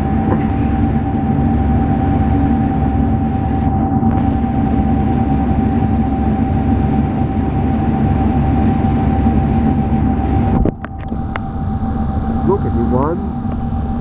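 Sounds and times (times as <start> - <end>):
turboprop airliner cabin drone: 0.0 - 14.0.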